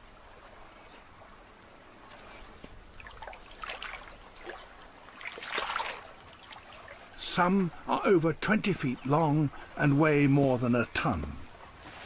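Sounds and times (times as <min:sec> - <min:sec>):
river water splashing: 0:01.2 - 0:12.0.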